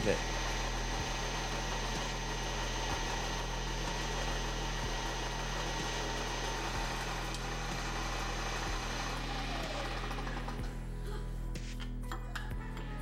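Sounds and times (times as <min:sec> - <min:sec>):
hole cutter boring steel: 0:00.0 - 0:10.7
milling machine spindle running: 0:00.0 - 0:10.7.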